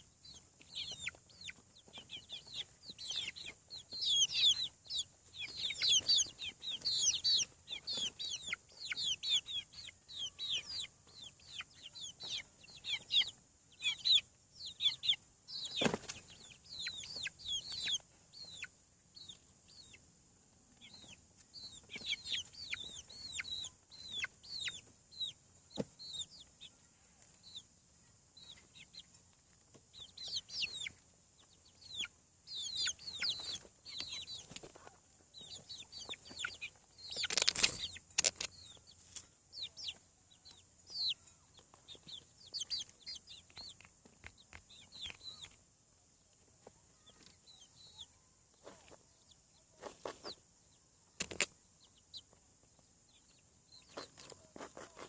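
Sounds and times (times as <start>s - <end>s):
chicks peeping and clucking: 0.0s - 55.0s.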